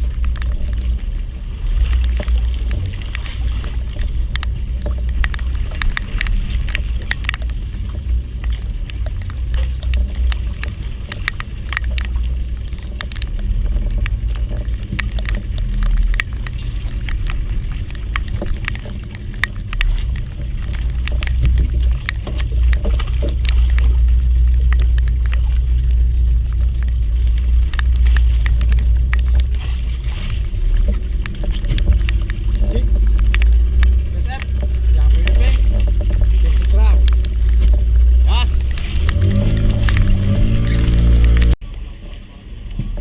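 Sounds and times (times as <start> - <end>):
low rumble: 0.0 - 43.0.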